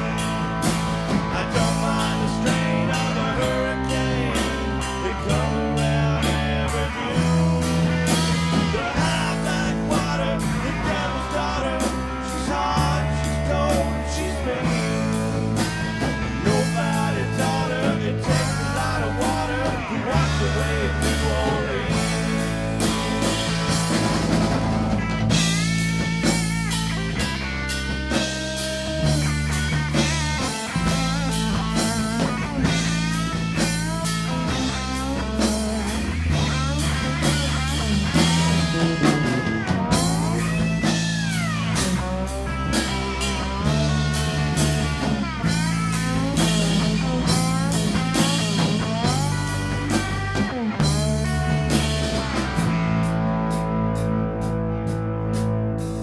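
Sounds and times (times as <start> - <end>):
bass guitar: 0.0 - 56.0
drum kit: 0.0 - 56.0
electric guitar lead: 0.0 - 56.0.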